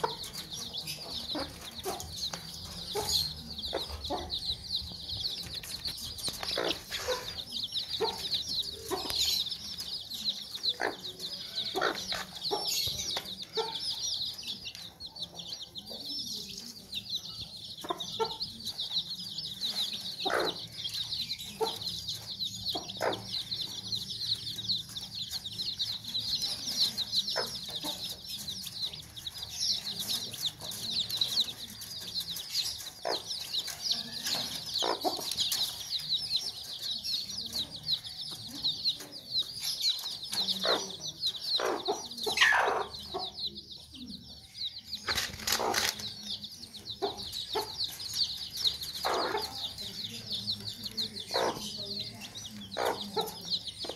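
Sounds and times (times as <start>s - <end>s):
hen clucking: 0.0s - 44.2s, 44.9s - 53.9s
chicks peeping: 0.0s - 53.9s.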